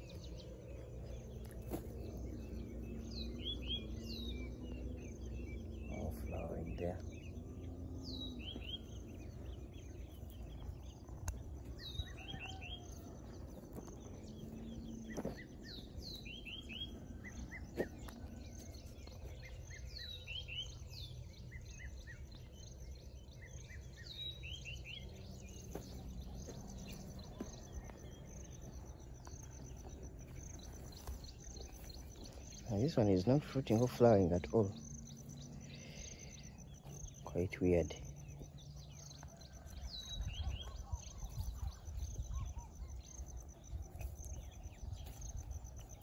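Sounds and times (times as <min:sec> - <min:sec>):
low wind-like rumble: 0:00.0 - 0:33.8, 0:34.4 - 0:46.0
high insect tone: 0:06.9 - 0:46.0.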